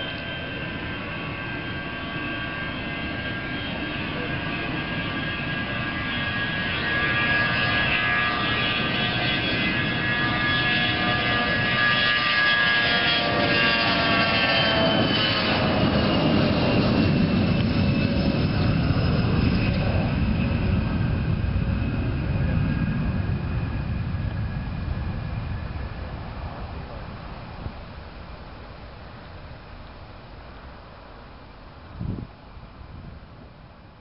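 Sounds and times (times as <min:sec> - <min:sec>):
jet engines whining: 0:00.0 - 0:34.0
low jet rumble: 0:00.0 - 0:34.0.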